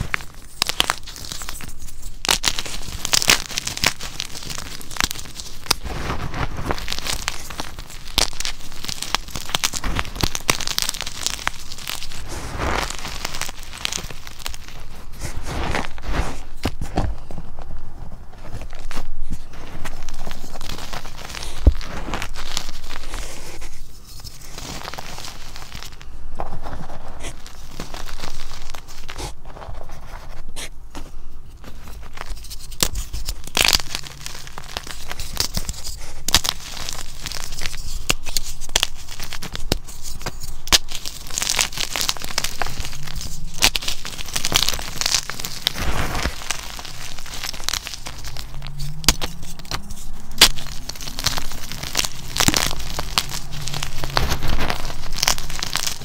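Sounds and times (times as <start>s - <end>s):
hands crushing chalk blocks: 0.0s - 56.0s.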